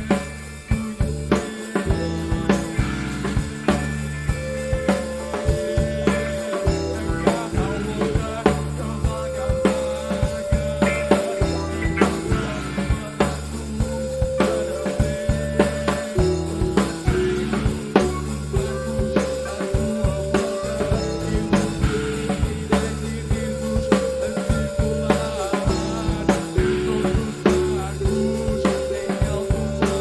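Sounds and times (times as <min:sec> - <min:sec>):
bass line: 0:00.0 - 0:30.0
rock band playing: 0:00.0 - 0:30.0.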